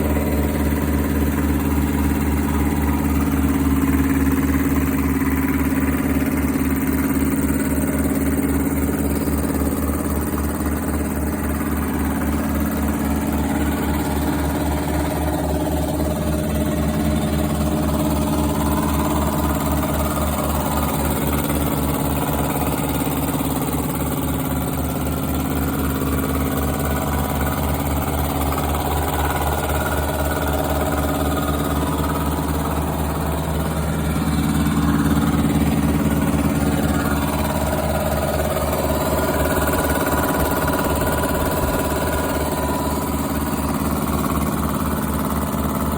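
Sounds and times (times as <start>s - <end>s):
air compressor running: 0.0s - 45.9s.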